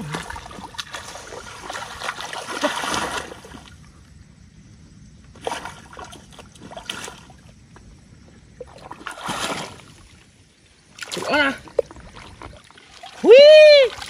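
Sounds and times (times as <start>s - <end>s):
shallow water splashing: 0.0s - 4.0s, 5.3s - 14.0s.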